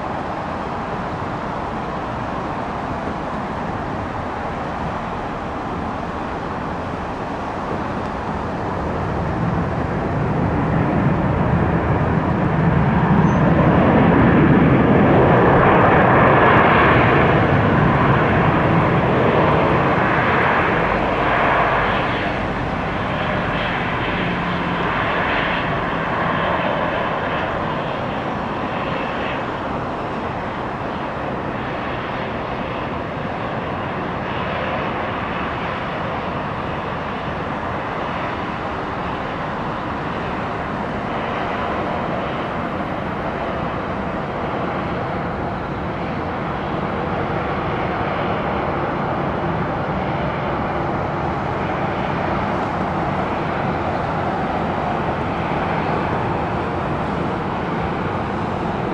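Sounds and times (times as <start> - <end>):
jet engines running: 0.0 - 58.9.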